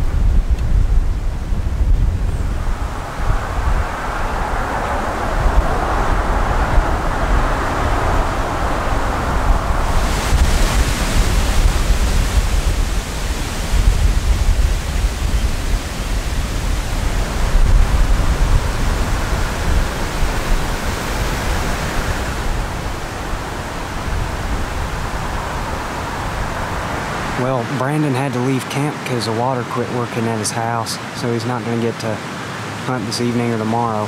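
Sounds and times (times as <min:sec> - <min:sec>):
wind buffeting microphone: 0:00.0 - 0:29.5
wind rushing through trees: 0:00.0 - 0:34.0.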